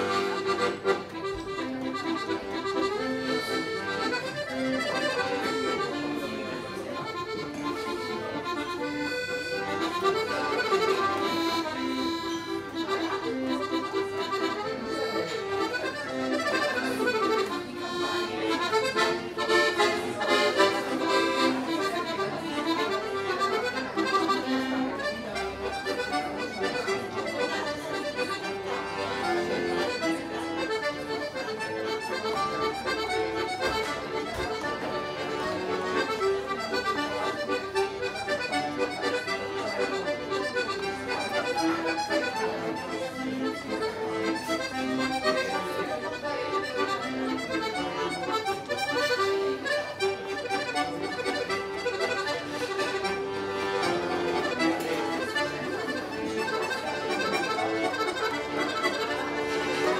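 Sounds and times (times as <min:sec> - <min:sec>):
piano accordion waltz: 0:00.0 - 0:59.9.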